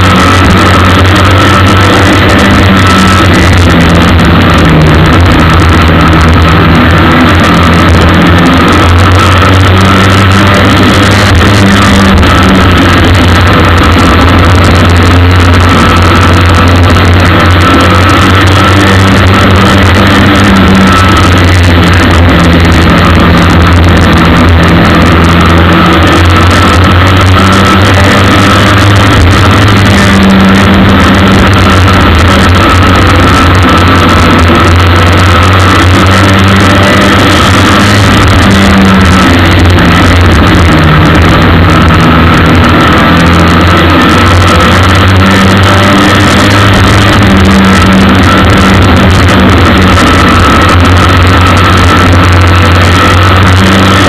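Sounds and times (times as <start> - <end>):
racing car engine running: 0.0 - 54.0.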